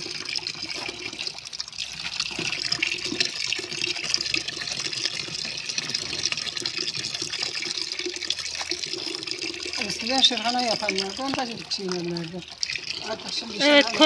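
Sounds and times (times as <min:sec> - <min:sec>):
juice trickling into bucket: 0:00.0 - 0:14.0.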